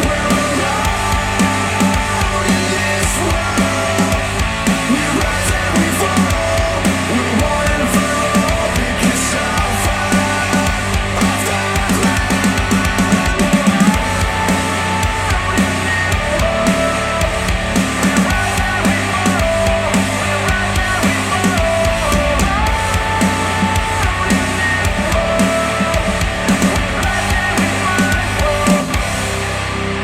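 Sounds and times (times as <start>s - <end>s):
instrumental rock music: 0.0s - 30.0s.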